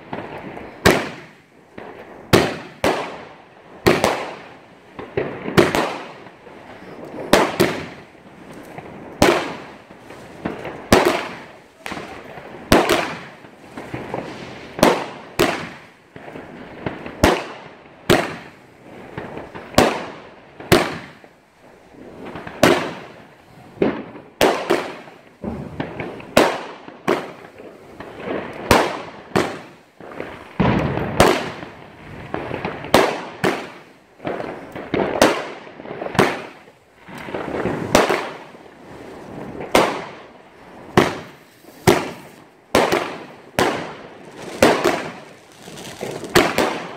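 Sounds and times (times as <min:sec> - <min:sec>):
fireworks bursting with sharp bangs: 0:00.0 - 0:46.9.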